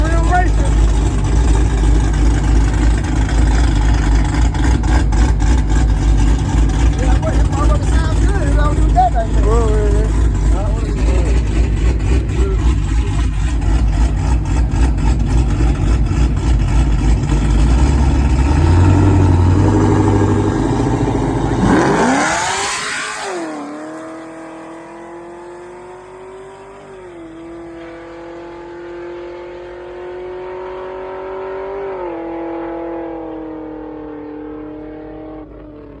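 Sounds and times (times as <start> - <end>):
drag race engines at full throttle: 0.0 - 36.0.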